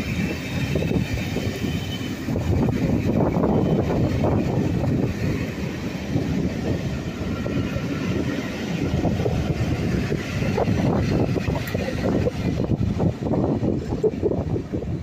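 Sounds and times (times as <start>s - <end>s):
diesel locomotive passing: 0.0s - 15.0s
train wheels rumbling on track: 0.0s - 15.0s.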